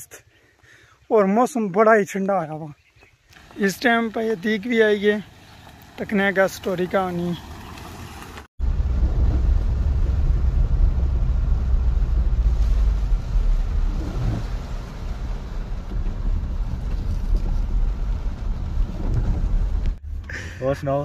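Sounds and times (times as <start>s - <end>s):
tyres and engine rumble: 3.0s - 21.0s
rain on windscreen: 3.4s - 20.3s.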